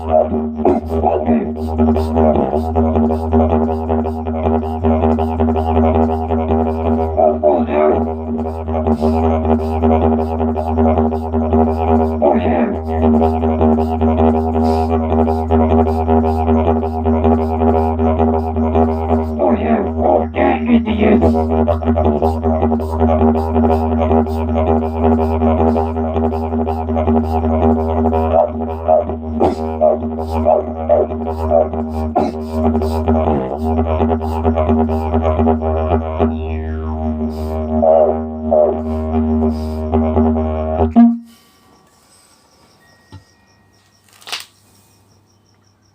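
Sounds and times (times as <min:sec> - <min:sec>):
didgeridoo drone: 0:00.0 - 0:41.6
voice sounds through didgeridoo: 0:00.0 - 0:41.6.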